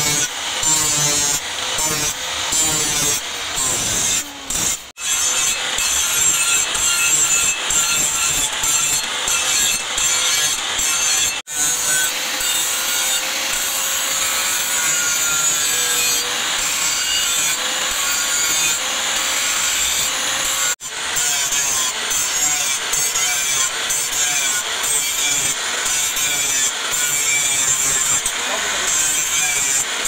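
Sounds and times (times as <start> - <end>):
angle grinder grinding steel: 0.0 - 30.0.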